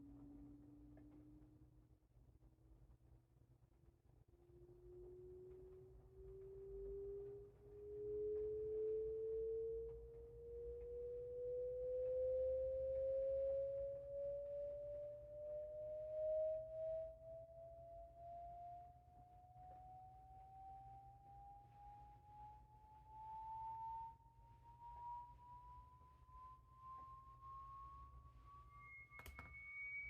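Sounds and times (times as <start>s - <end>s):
low hum: 0.0s - 30.0s
sine-wave test tone sweeping upward: 0.0s - 30.0s.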